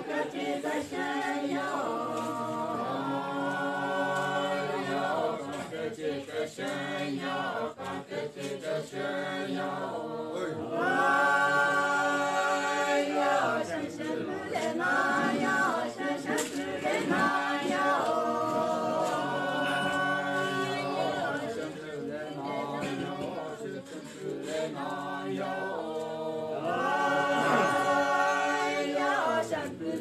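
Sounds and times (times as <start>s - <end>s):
group singing a cappella: 0.0s - 30.0s.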